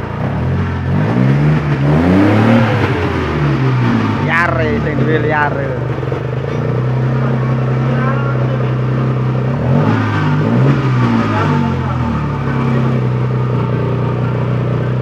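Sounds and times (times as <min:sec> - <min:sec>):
petrol engine revving: 0:00.0 - 0:15.0.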